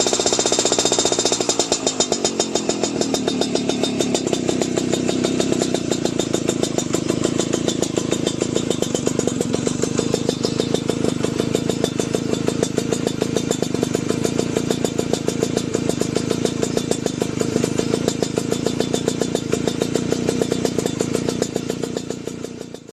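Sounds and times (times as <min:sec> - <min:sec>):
scooter engine idling with popping: 0:00.0 - 0:22.9.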